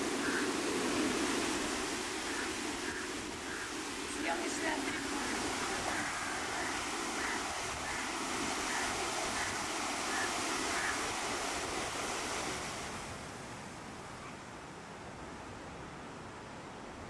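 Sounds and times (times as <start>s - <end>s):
waves rushing on shore: 0.0s - 17.0s.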